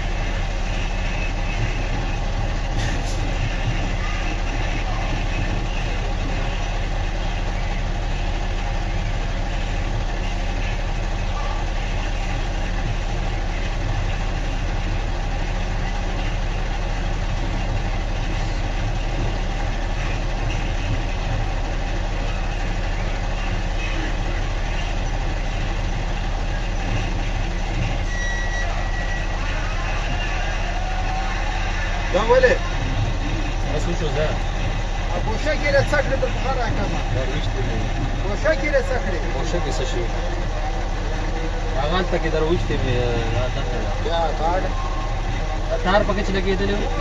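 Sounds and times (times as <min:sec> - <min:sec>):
noisy background: 0:00.0 - 0:47.0.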